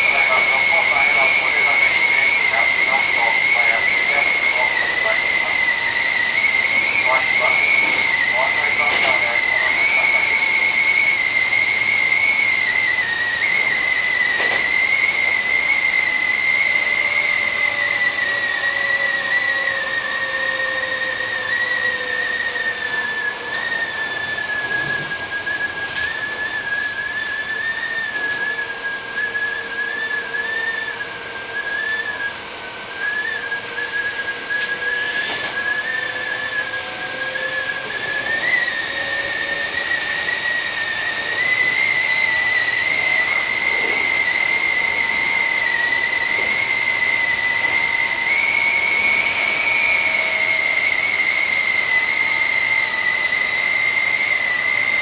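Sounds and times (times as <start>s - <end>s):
train motor whine: 0.0s - 55.0s
train running hiss: 0.0s - 55.0s.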